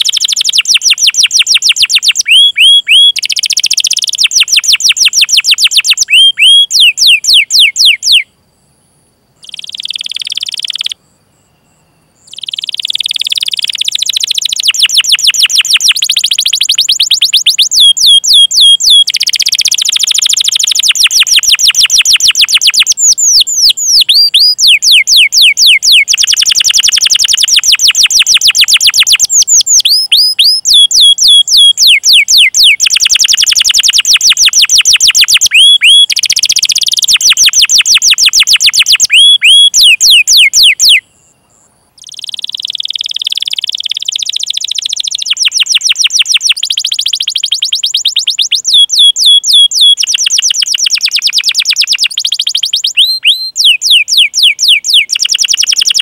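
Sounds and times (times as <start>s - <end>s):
canary singing trills: 0.0s - 8.3s, 9.4s - 56.0s.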